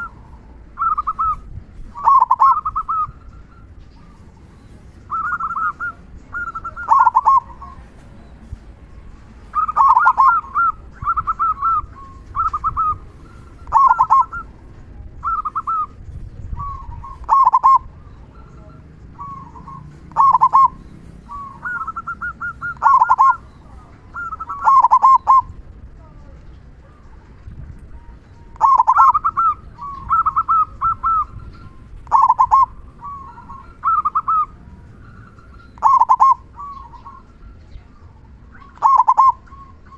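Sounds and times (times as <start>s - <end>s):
dove cooing: 0.0s - 26.2s, 26.8s - 39.9s.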